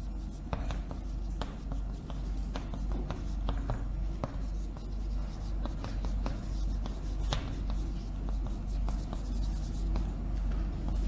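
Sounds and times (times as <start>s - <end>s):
chalk writing on blackboard: 0.0s - 11.0s
low steady hum: 0.0s - 11.0s.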